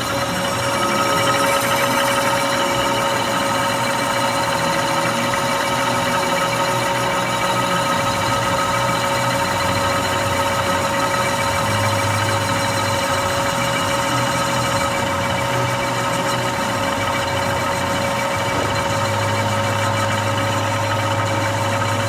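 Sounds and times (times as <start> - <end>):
machine tool humming and whining: 0.0 - 22.0.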